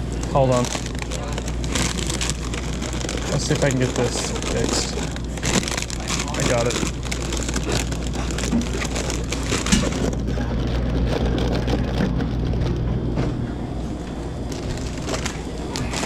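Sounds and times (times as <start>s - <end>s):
rustling and crackling handling: 0.0s - 16.0s
steady low hum: 0.0s - 16.0s.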